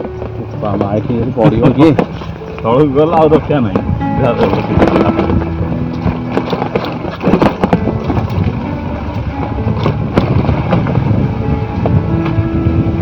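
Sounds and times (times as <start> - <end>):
motorcycle jolting over bumps: 0.0 - 13.0.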